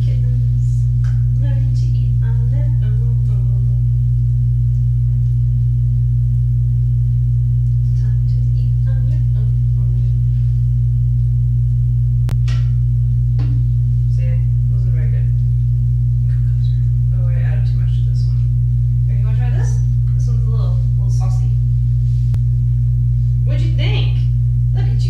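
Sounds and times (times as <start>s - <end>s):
loud low electrical hum: 0.0s - 25.0s.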